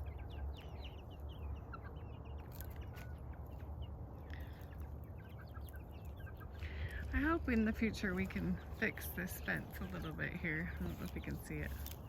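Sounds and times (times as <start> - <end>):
chickens clucking: 0.0 - 12.0
chicks peeping: 0.0 - 12.0
steady low rumble: 0.0 - 12.0.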